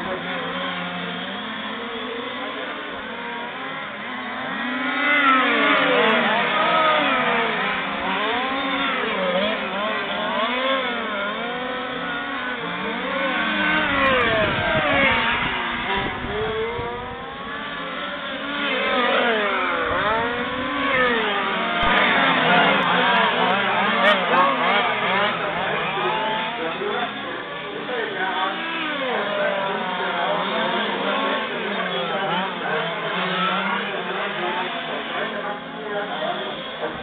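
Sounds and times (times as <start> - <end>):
rc truck engines revving: 0.0 - 37.0.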